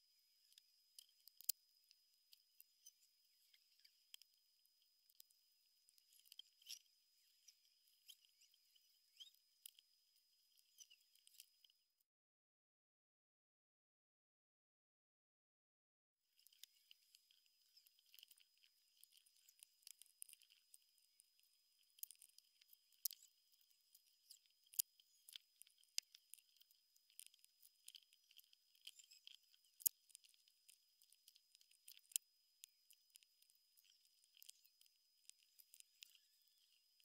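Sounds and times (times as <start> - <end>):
faint high whine: 0.0 - 12.0, 16.3 - 37.0.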